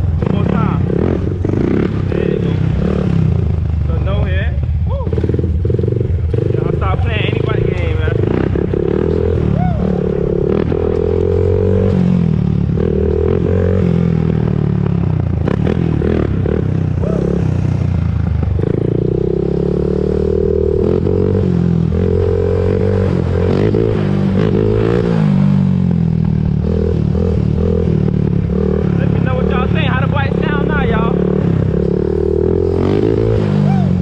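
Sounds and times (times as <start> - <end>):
quad bike engine revving: 0.0 - 34.0.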